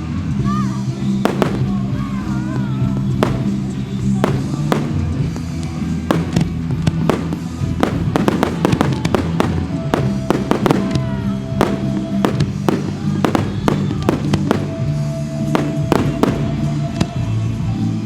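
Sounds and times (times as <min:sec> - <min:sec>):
music with low notes: 0:00.0 - 0:18.0
fireworks bangs: 0:01.0 - 0:17.2.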